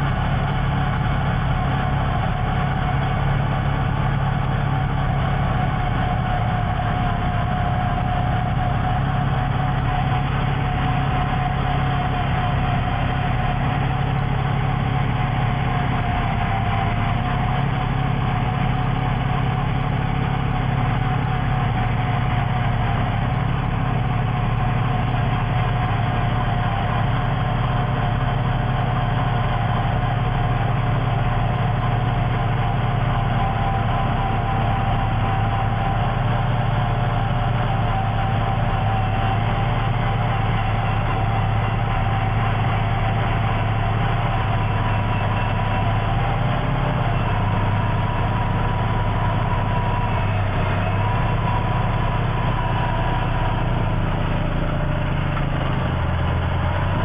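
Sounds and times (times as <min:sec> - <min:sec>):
heavy machine engine droning: 0:00.0 - 0:57.0
high engine whine: 0:00.0 - 0:57.0.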